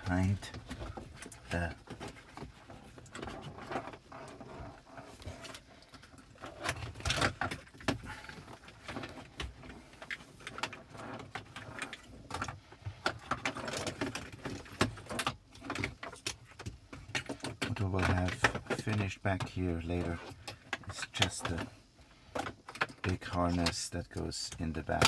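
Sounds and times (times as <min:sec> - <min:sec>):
plastic and cable clicks and scrapes: 0:00.1 - 0:25.0.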